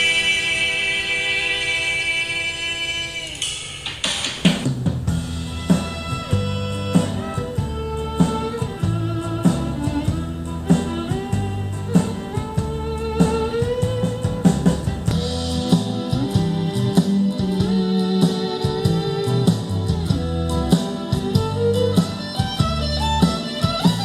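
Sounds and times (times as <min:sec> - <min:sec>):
rock guitars: 0:00.0 - 0:24.0
drum kit beat: 0:03.3 - 0:24.0.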